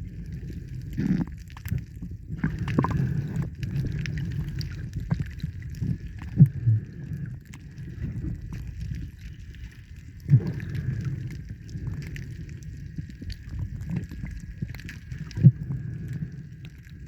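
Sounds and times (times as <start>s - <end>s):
underwater low rumble: 0.0s - 17.0s.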